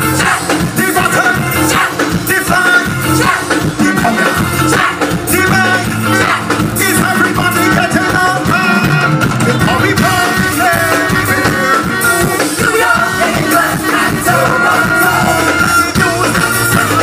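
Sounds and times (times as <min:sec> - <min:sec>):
live soca music: 0:00.0 - 0:17.0
person singing: 0:00.0 - 0:17.0.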